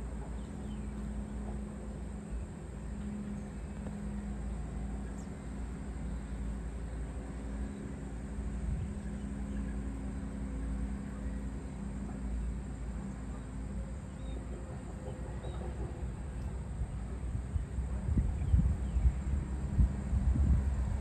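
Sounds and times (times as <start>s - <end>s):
faint continuous hum: 0.0s - 21.0s
outdoor background rumble: 0.0s - 21.0s.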